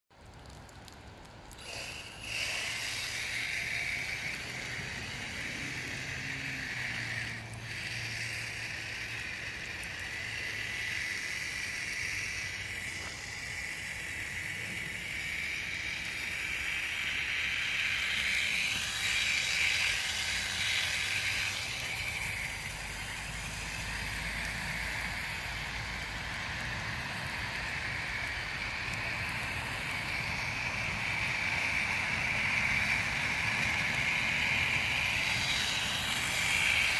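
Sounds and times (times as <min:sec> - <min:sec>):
toy car motor whining: 0:01.5 - 0:36.9.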